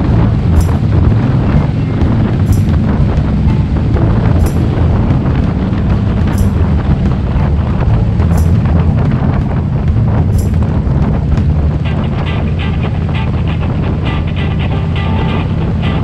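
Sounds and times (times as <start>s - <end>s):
motorcycle engine running: 0.0s - 16.0s
wind rush on microphone: 0.0s - 16.0s.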